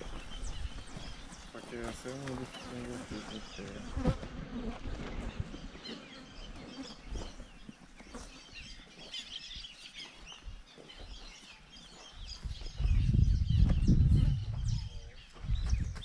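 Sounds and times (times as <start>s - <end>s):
birds chirping and calling: 0.0s - 16.0s.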